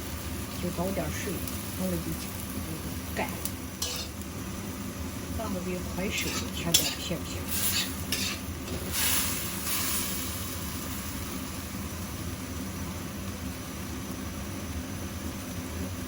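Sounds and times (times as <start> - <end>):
food sizzling in a pan: 0.0 - 16.0
low even hum: 0.0 - 16.0.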